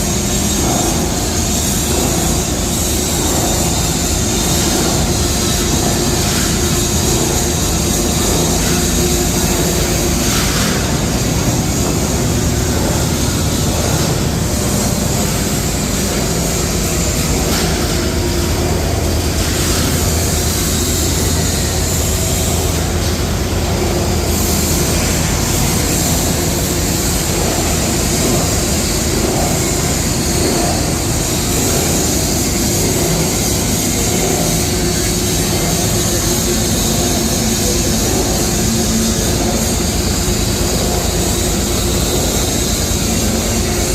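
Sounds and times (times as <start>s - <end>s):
constant hum: 0.0s - 43.9s
washing machinery running: 0.0s - 43.9s.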